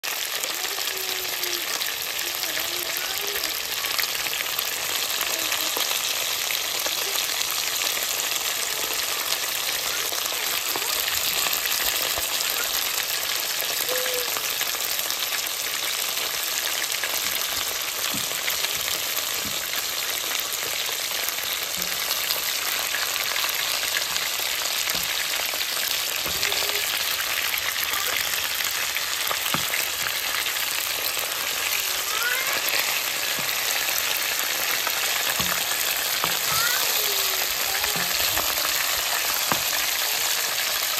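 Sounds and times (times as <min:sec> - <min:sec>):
meatballs sizzling in oil: 0:00.0 - 0:40.9.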